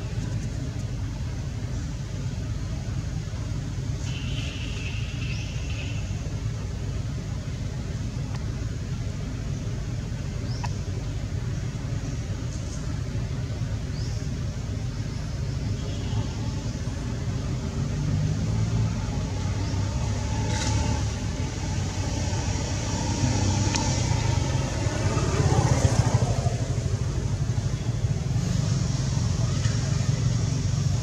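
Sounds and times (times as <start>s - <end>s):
road vehicles passing: 0.0s - 31.0s.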